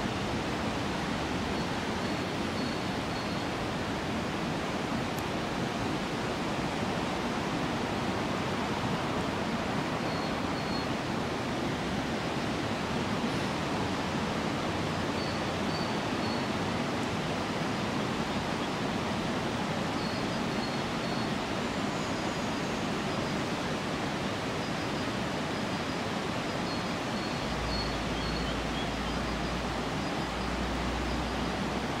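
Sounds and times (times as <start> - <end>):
fast-flowing river rushing: 0.0 - 32.0.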